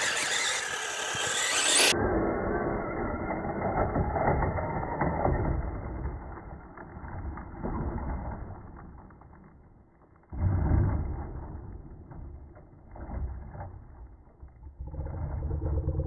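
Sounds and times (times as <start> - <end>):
toy monster truck driving: 0.0 - 16.0.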